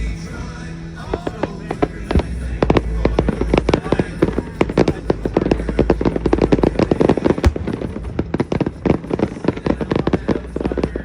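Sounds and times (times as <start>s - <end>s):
fireworks barrage: 1.0s - 11.0s.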